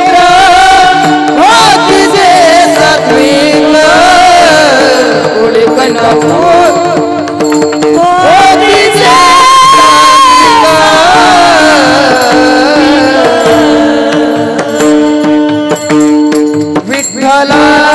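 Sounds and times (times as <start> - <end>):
mridang drum strokes: 0.0 - 17.9
person singing devotional song: 0.0 - 17.9.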